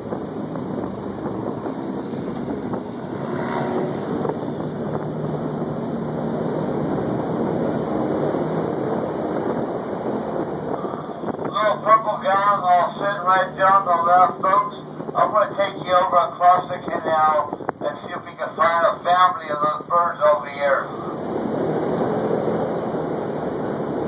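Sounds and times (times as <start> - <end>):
airboat engine and propeller: 0.0 - 24.0
wind buffeting microphone: 0.0 - 24.0.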